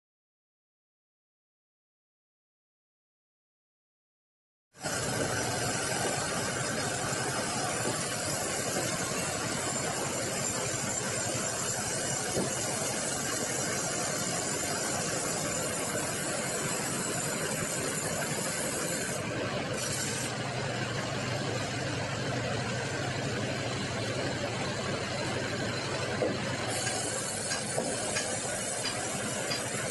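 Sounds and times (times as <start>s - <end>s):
band saw whining: 4.8s - 29.9s.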